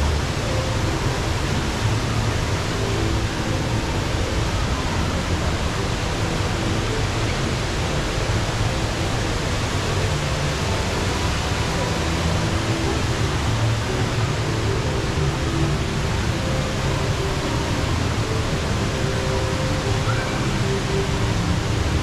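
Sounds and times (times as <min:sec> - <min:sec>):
indoor waterfall rushing: 0:00.0 - 0:22.0.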